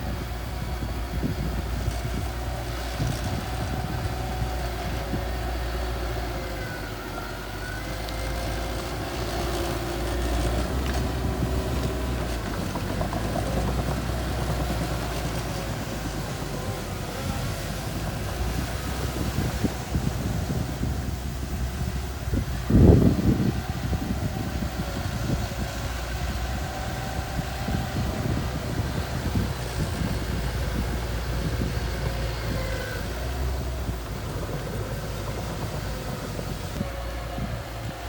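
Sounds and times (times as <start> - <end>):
bulldozer diesel engine rumbling: 0.0 - 38.0.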